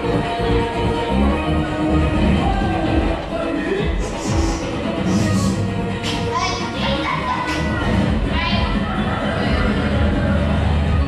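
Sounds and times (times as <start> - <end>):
background music with a beat: 0.0 - 11.0.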